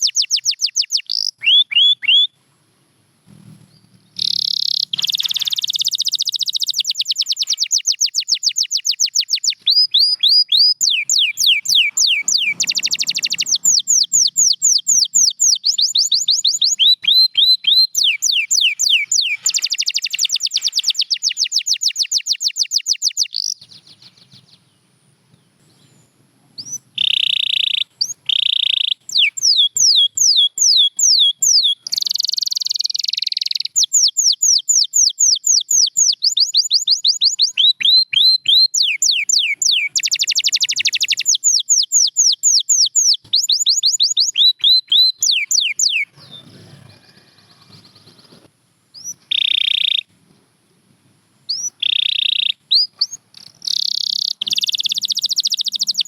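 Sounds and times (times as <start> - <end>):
canary singing trills: 0.0 - 2.4, 3.3 - 50.1, 51.5 - 56.0.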